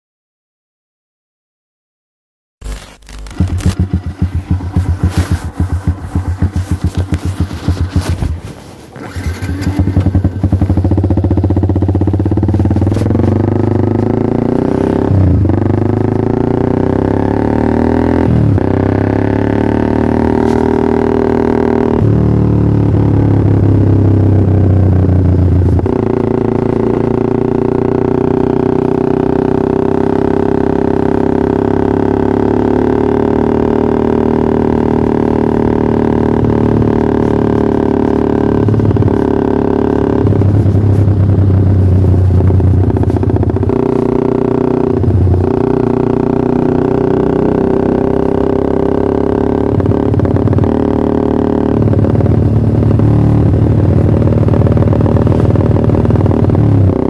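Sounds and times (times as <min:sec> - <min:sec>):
motorcycle engine running: 0:02.6 - 0:57.0.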